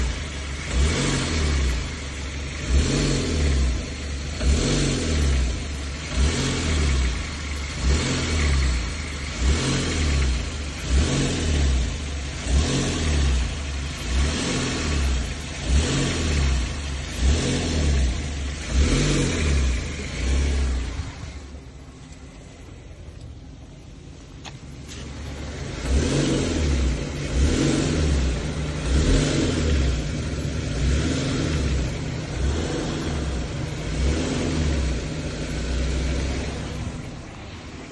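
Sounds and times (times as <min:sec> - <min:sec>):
car engine revving in blips: 0:00.0 - 0:37.9.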